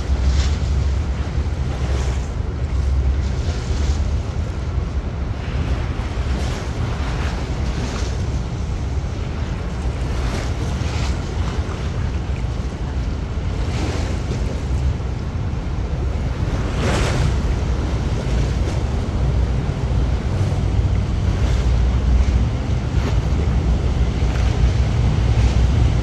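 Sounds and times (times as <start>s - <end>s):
ferry engine low rumble: 0.0s - 26.0s
water rushing from jet wash: 0.0s - 26.0s
wind buffeting microphone: 0.0s - 26.0s.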